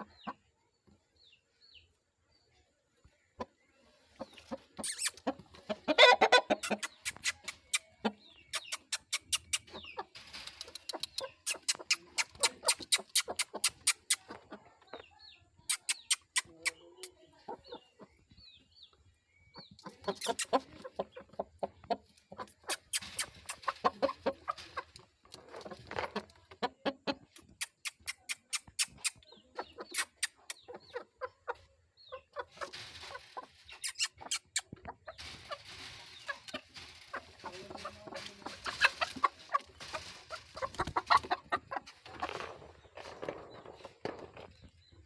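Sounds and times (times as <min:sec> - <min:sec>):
hens and rooster clucking: 0:00.0 - 0:45.0.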